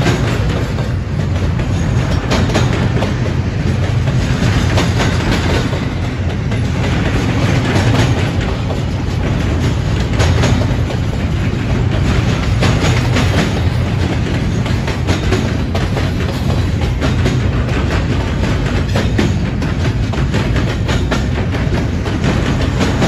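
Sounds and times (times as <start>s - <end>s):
freight train low rumble: 0.0s - 23.0s
wheels clicking over rail joints: 0.0s - 23.0s.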